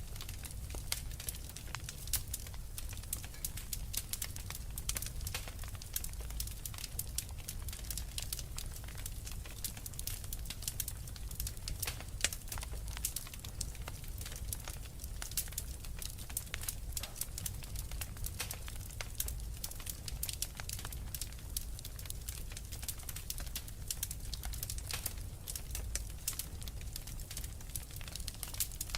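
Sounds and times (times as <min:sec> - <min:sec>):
fireplace fire crackling: 0:00.0 - 0:28.9.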